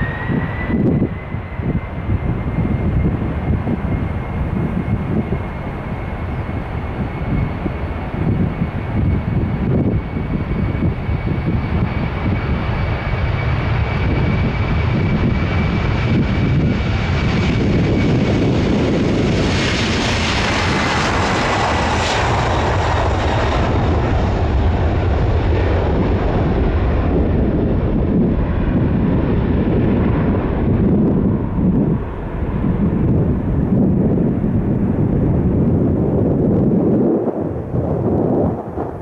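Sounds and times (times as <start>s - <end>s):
airliner passing: 0.0s - 39.0s.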